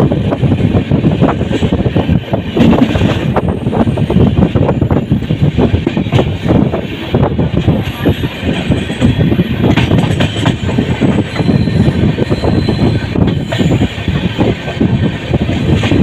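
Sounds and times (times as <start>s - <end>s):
train rumbling at speed: 0.0s - 16.0s
wheels knocking on rails: 0.0s - 16.0s.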